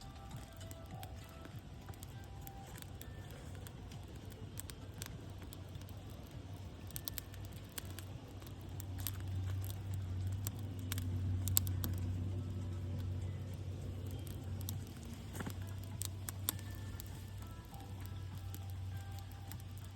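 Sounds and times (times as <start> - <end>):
sticks and leaves crackling: 0.0 - 19.9.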